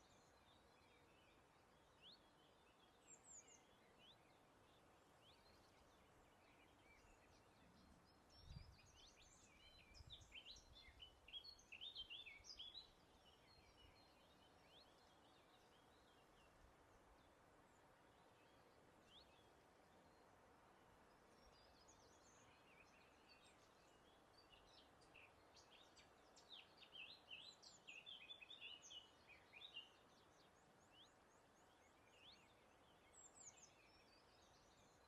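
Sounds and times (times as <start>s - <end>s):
small birds chirping: 0.0s - 35.0s
soft steady hiss: 0.0s - 35.0s.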